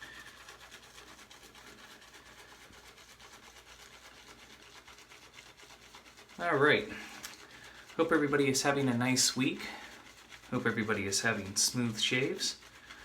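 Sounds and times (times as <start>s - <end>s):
shaving brush rubbing soap: 0.0s - 13.0s.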